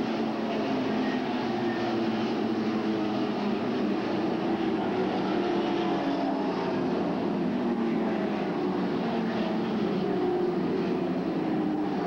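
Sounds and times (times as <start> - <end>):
stock car engines droning: 0.0 - 12.0.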